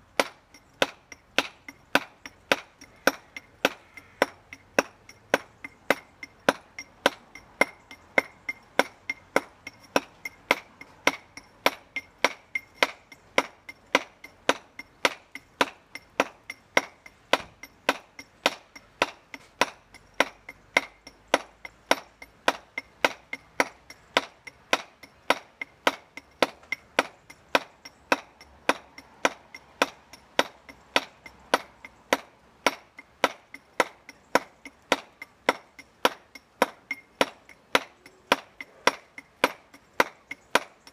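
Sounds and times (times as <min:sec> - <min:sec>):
mallet striking chisel into stone: 0:00.1 - 0:40.9.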